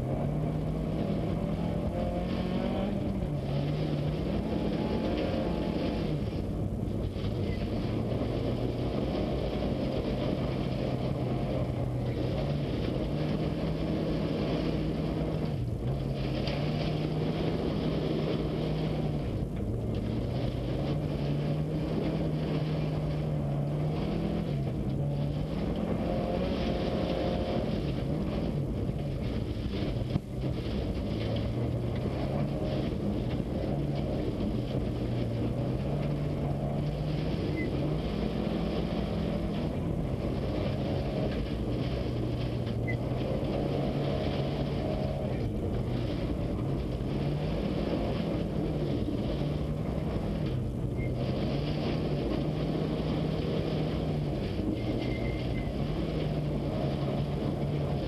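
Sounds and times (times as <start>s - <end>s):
car engine revving: 0.0s - 58.0s
tyre and road noise: 0.0s - 58.0s.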